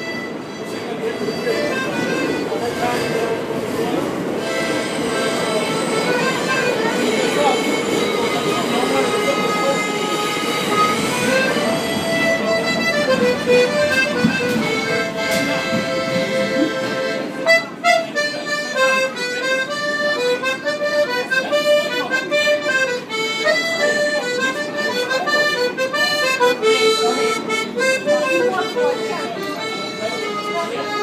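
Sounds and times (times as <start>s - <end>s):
accordion melody: 0.0s - 31.0s.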